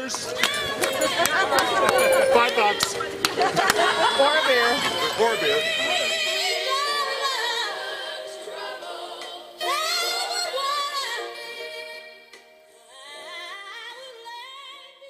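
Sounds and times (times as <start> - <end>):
woman singing with vibrato: 0.3 - 12.2, 12.8 - 15.0.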